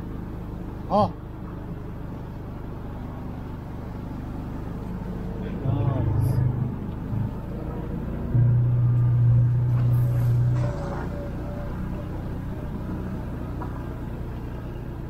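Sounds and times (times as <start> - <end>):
vehicle rumbling on gravel trail: 0.0 - 15.0.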